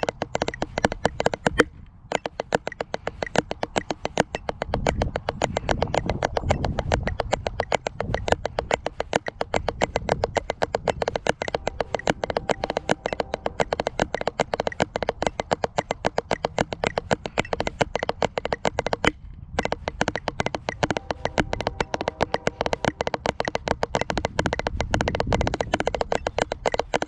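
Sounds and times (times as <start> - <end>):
drumsticks on practice pad: 0.0 - 27.0.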